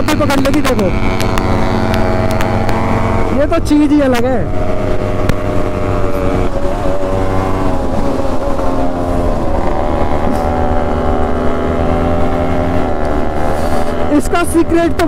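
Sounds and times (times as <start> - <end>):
second motorcycle running: 0.0 - 15.0
two-stroke motorcycle engine: 0.0 - 15.0.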